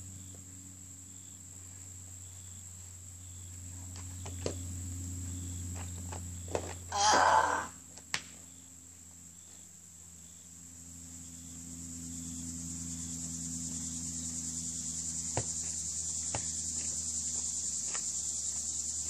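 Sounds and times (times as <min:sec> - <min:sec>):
high-pitched insect chorus: 0:00.0 - 0:19.0
low steady hum: 0:00.0 - 0:19.0.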